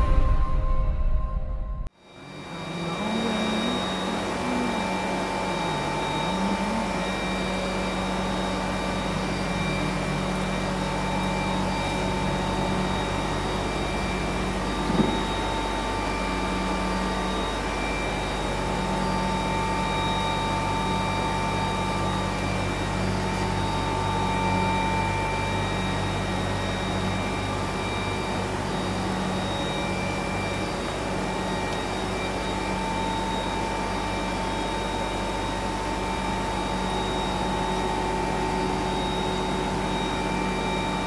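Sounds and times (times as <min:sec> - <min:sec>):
aeration pump hum and hiss: 0:02.0 - 0:41.0.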